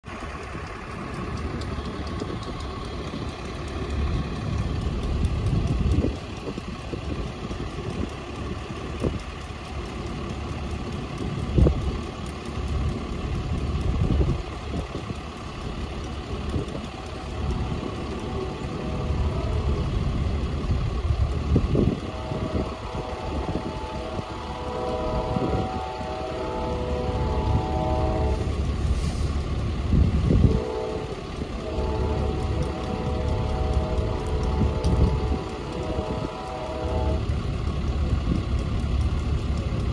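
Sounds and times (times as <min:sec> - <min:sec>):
diesel locomotive rumbling: 0:00.0 - 0:39.9.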